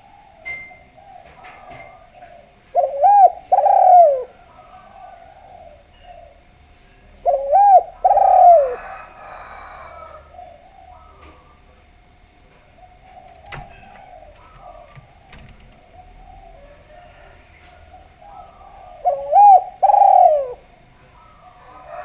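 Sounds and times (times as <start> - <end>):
dove cooing: 0.0 - 11.8, 12.6 - 22.0.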